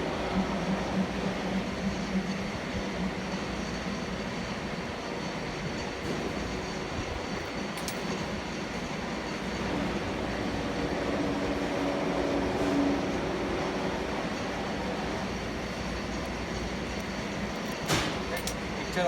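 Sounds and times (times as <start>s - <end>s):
mechanical running hum: 0.0s - 19.0s.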